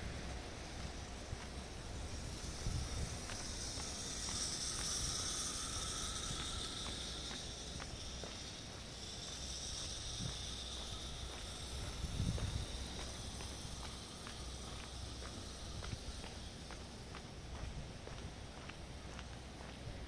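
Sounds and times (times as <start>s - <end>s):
footsteps on paving: 0.0s - 20.0s
steady hiss: 0.0s - 20.0s.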